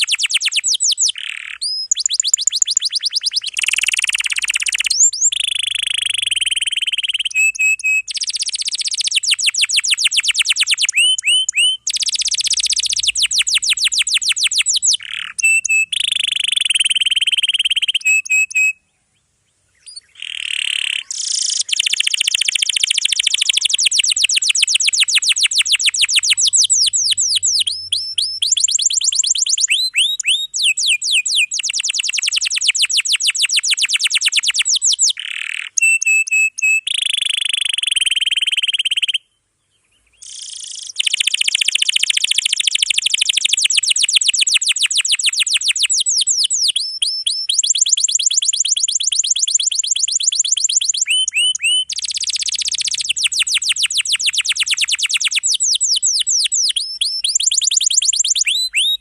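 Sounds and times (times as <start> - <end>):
canary singing trills: 0.0 - 19.0, 19.7 - 59.0.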